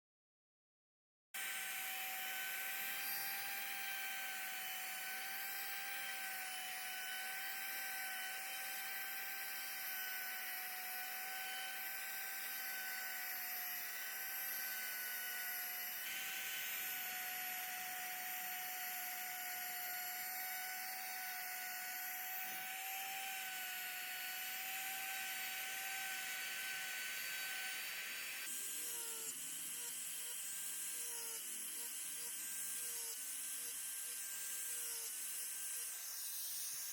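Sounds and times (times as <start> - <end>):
electric router carving wood: 1.4 - 36.9.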